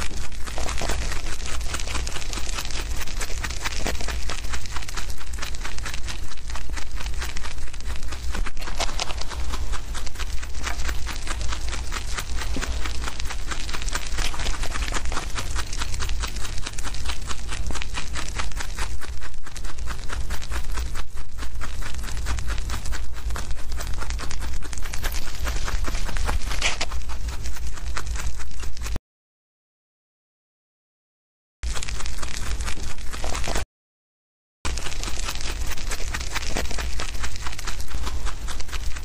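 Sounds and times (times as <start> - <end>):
rabbits chewing grass: 0.0 - 29.0, 31.6 - 33.6, 34.7 - 39.0.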